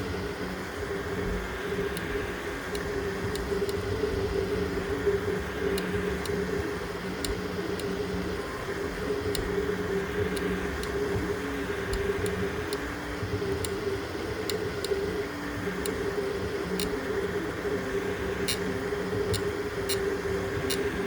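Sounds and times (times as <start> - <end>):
sharp printer ticks: 1.7 - 17.3, 18.3 - 21.0.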